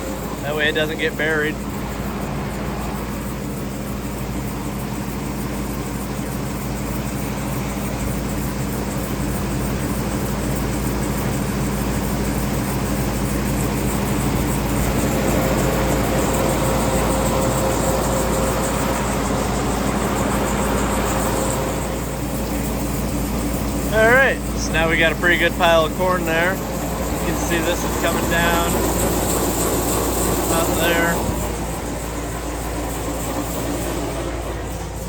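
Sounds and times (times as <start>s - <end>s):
high steady whine: 0.0s - 35.0s
tractor engine running: 0.0s - 35.0s
auger unloading grain: 4.3s - 35.0s.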